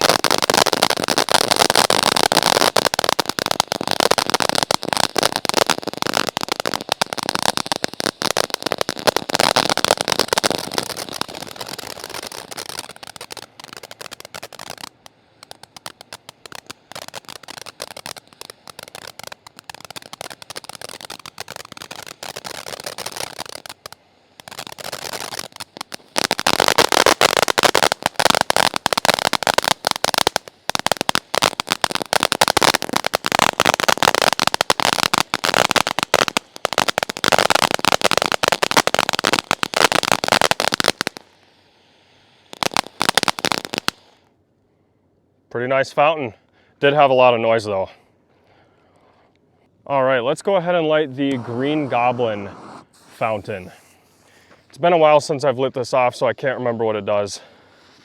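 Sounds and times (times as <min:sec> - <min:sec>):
firework fountain crackling: 0:00.0 - 0:44.2, 0:50.2 - 0:58.0.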